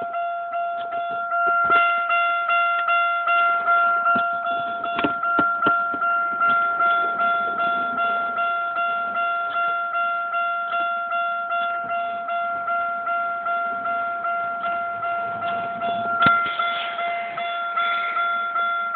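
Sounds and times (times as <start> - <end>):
car warning chime dinging: 0.0 - 18.9.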